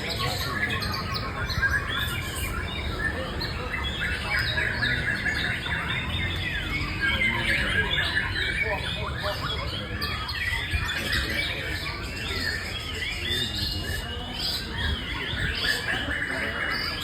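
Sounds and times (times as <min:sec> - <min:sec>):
bird singing chirps and whistles: 0:00.0 - 0:17.0.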